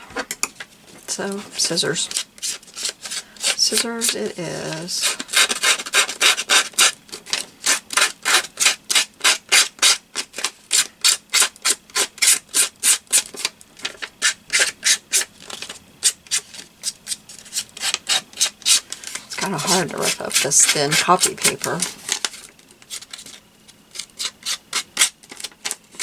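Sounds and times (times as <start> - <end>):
scissor blade scraping paper: 1.6 - 26.0.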